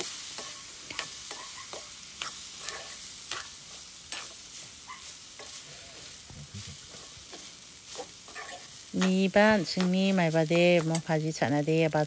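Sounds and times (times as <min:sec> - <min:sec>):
metal spoon scraping a wok: 0:00.0 - 0:06.2, 0:06.9 - 0:09.9, 0:10.7 - 0:11.1
hot pan sizzling: 0:00.0 - 0:12.0.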